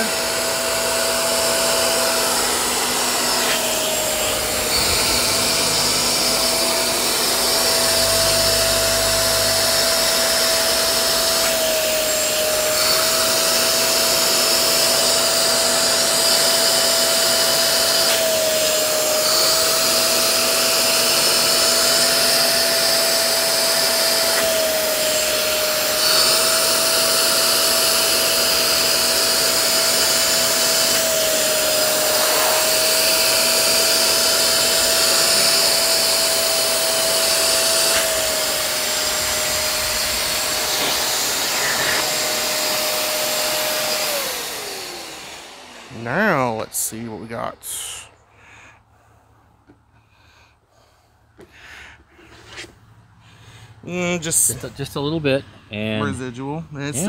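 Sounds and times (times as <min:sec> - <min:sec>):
vacuum motor whine: 0:00.0 - 0:48.0.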